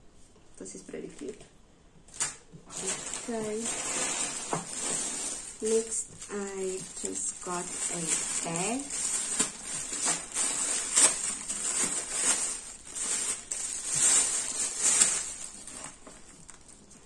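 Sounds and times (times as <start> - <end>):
plastic bag tearing: 2.1 - 17.0
plastic packaging crinkling: 2.1 - 17.0.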